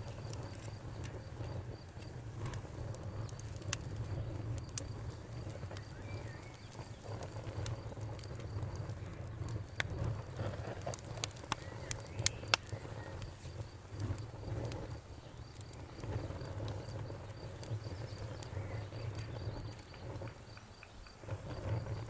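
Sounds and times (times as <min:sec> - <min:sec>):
wood fire crackling: 0:00.0 - 0:22.0
cricket chirping: 0:03.1 - 0:10.0, 0:11.1 - 0:22.0.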